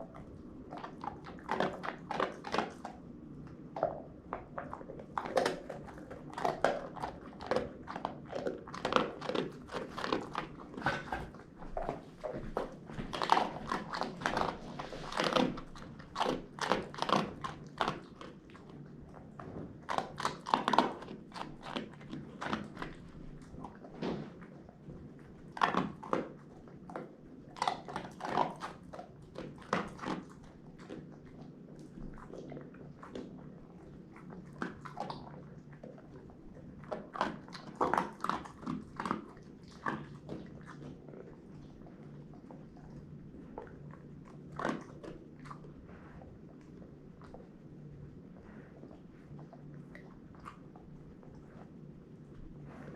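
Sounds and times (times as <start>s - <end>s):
dog chewing crunchy donut: 0.0s - 52.9s.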